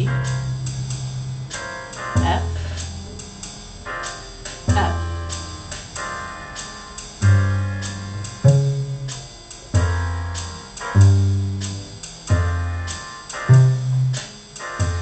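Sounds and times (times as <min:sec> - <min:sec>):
light cymbal ticks: 0:00.0 - 0:15.0
low bass notes: 0:00.0 - 0:15.0
piano chords: 0:00.0 - 0:15.0.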